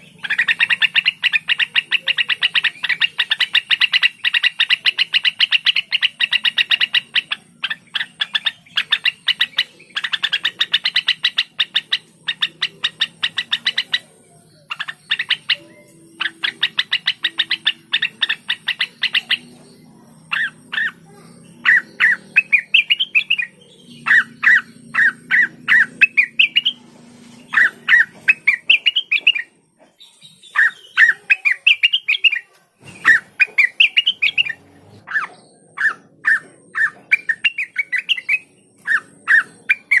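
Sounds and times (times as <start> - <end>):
bird whistled phrases: 0.0 - 19.7, 20.3 - 26.8, 27.5 - 29.5, 30.4 - 40.0
bird rapid chattering: 0.0 - 40.0.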